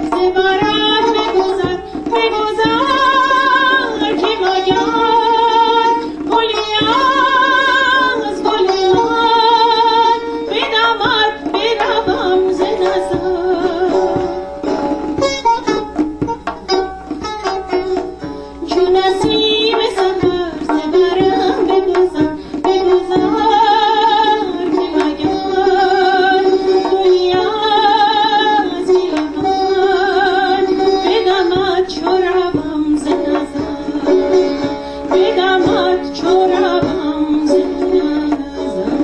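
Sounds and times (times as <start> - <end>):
woman singing with vibrato: 0.0 - 15.7, 18.6 - 39.0
hand drum: 0.0 - 39.0
plucked lute: 0.0 - 39.0.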